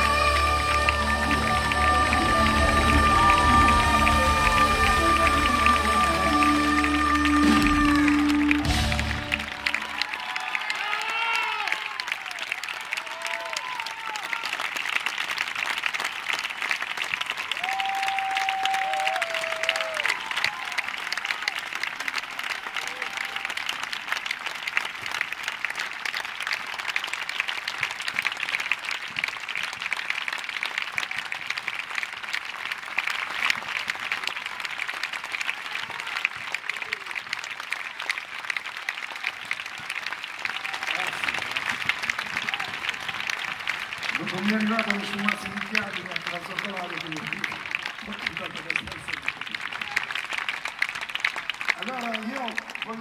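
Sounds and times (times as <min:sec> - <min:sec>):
crowd applauding: 0:00.0 - 0:53.0.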